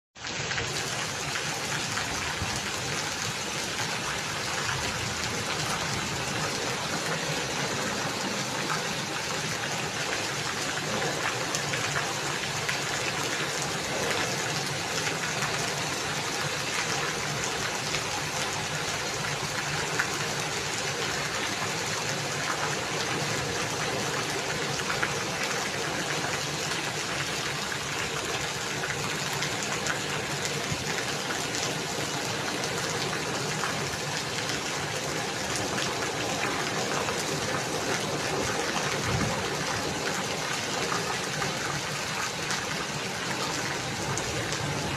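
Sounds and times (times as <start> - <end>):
steady rain falling: 0.2 - 44.9.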